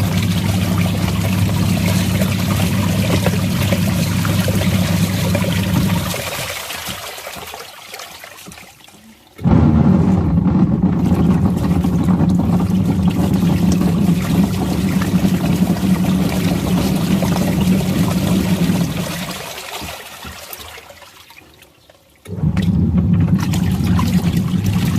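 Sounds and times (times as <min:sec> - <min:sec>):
washing machine motor hum: 0:00.0 - 0:06.9, 0:09.4 - 0:20.4, 0:22.3 - 0:24.9
washing machine sloshing water: 0:00.0 - 0:24.9.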